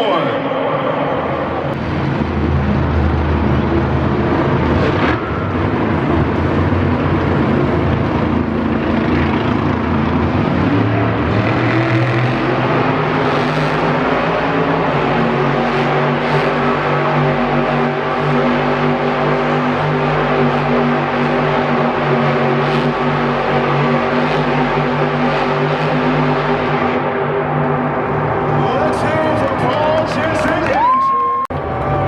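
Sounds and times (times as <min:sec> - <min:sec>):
monster truck engine revving: 0:00.0 - 0:30.8.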